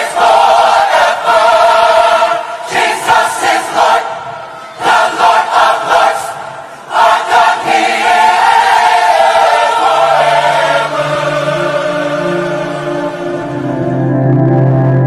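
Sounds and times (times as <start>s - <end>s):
choir singing chords: 0.0s - 15.0s.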